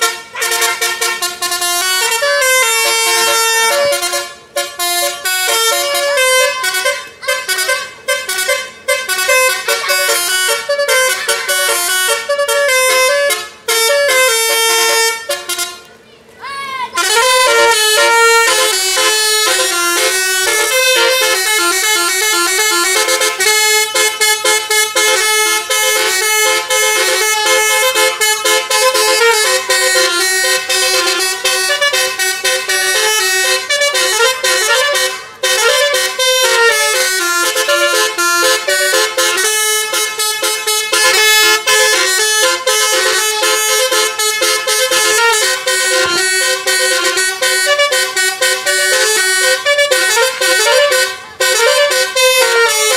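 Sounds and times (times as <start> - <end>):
bus musical air horn melody: 0.0 - 52.9.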